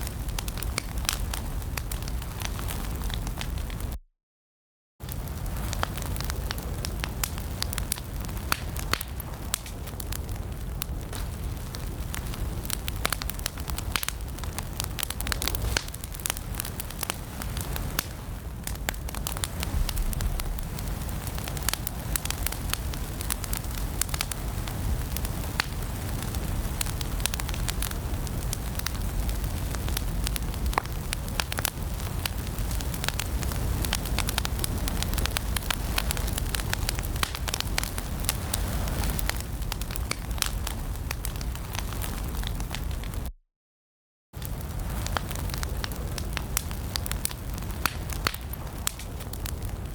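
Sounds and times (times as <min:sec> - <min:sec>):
fire crackling: 0:00.0 - 0:04.0, 0:05.0 - 0:43.3, 0:44.4 - 0:49.9
low rumble of burning: 0:00.0 - 0:04.0, 0:05.0 - 0:43.3, 0:44.4 - 0:49.9.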